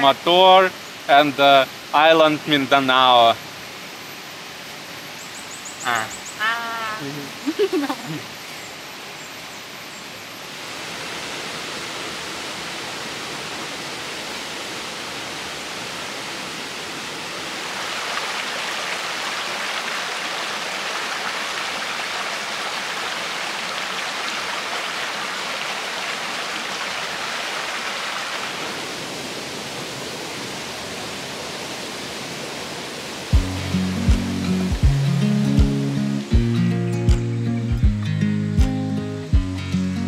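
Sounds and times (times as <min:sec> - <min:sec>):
stream rushing over rocks: 0:00.0 - 0:36.3.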